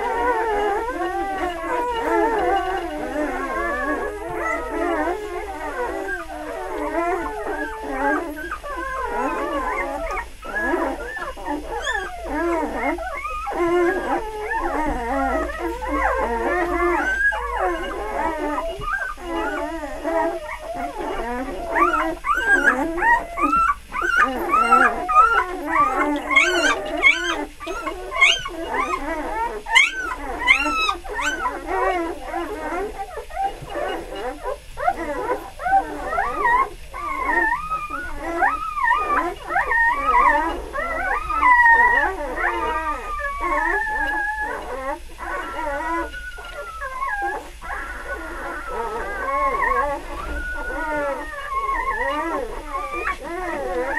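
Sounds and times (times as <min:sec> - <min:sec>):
puppies squeaking and whining: 0:00.0 - 0:53.9.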